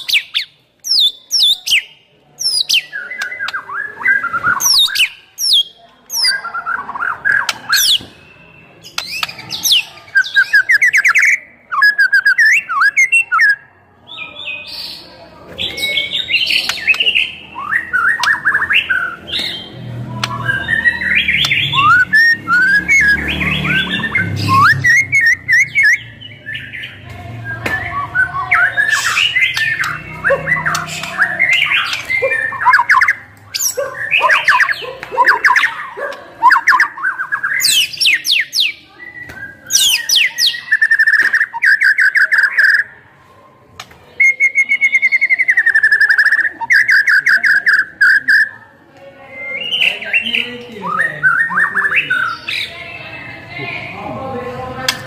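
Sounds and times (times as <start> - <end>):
songbird singing: 0.0 - 43.0, 43.8 - 55.0.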